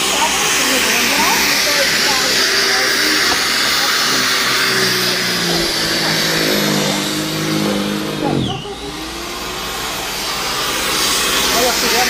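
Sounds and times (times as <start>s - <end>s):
snow thrower motor whining: 0.0s - 12.0s.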